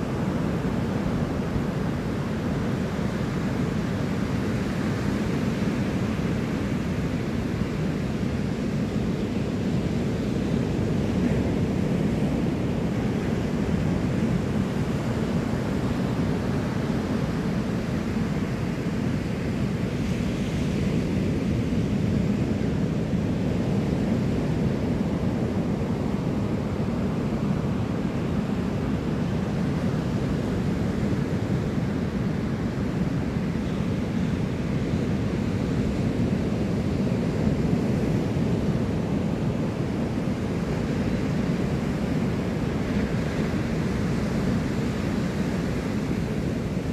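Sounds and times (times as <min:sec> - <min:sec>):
ocean surf breaking on beach: 0:00.0 - 0:46.9
wind rumble on microphone: 0:00.0 - 0:46.9.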